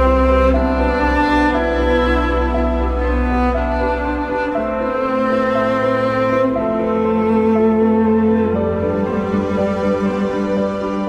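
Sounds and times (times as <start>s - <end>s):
slow sad bowed strings music: 0.0s - 11.0s
steady low drone: 0.0s - 11.0s.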